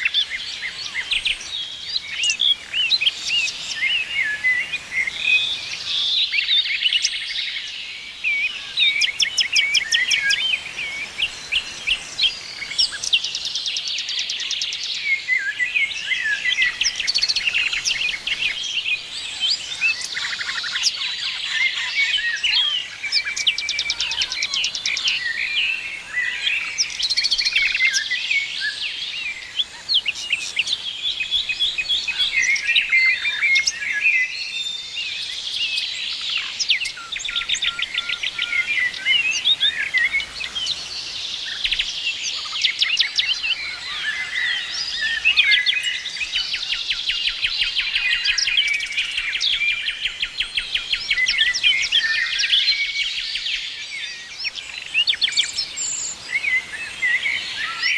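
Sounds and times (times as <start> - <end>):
songbirds singing: 0.0 - 57.9.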